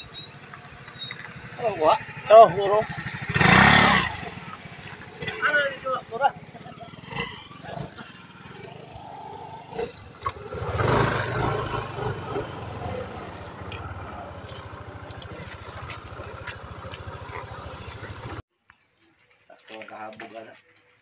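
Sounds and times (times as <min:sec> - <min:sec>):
small motorcycle engine running: 0:00.0 - 0:18.4.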